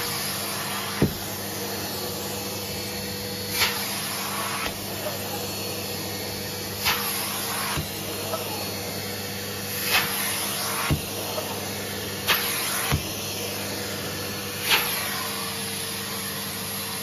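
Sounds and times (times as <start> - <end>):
vacuum cleaner motor humming: 0.0 - 17.0
vacuum nozzle on fabric: 0.0 - 17.0.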